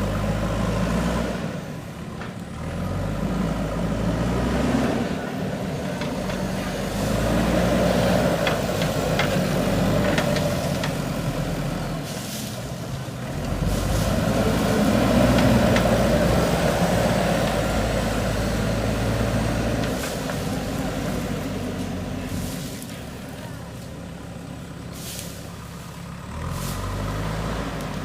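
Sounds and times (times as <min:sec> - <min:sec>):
diesel engine working under load: 0:00.0 - 0:28.0.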